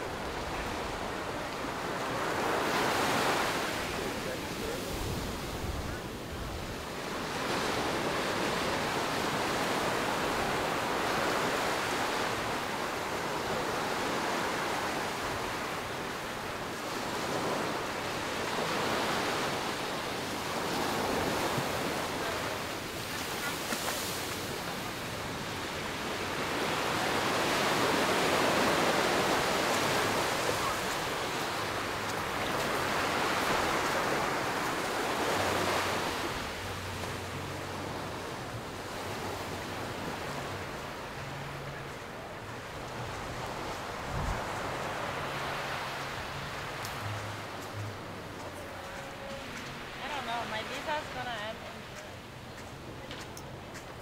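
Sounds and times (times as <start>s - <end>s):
ocean surf breaking: 0.0s - 54.0s.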